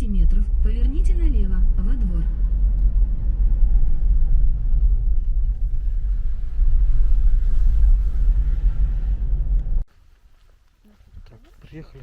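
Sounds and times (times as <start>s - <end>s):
car rumbling on rough road: 0.0s - 12.0s.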